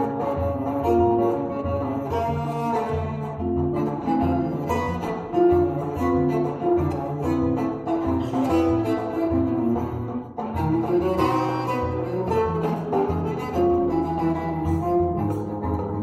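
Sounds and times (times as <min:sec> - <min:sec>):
acoustic guitar: 0:00.0 - 0:16.0
bowed cello melody: 0:00.0 - 0:16.0.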